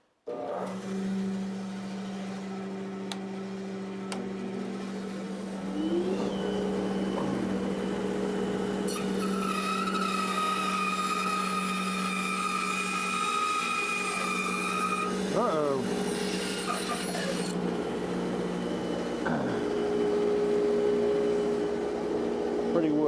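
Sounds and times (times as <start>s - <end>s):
bandsaw running with whine: 0.3s - 23.0s.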